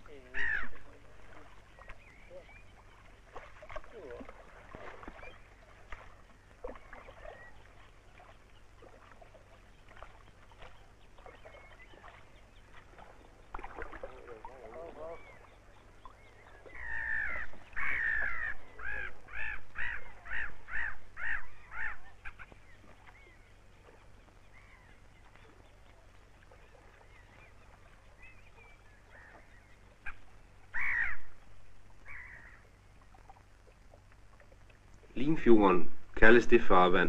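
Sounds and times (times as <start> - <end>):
bird calling: 0.0 - 35.1.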